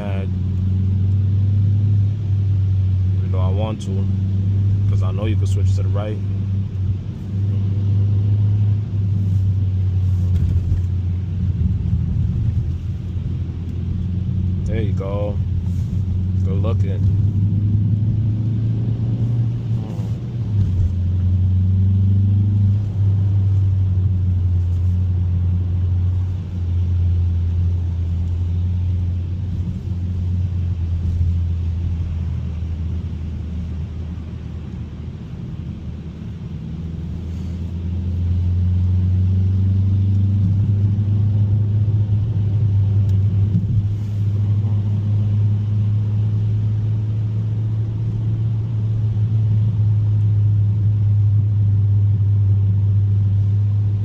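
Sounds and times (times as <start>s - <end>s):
car engine droning: 0.0s - 54.0s
road noise: 0.0s - 54.0s.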